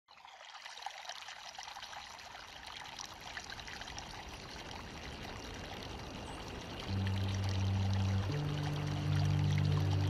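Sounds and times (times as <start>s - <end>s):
river water trickling: 0.1s - 10.0s.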